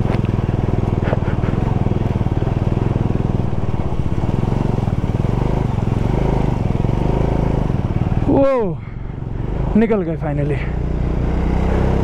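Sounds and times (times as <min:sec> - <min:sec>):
motorcycle engine under load: 0:00.0 - 0:12.0.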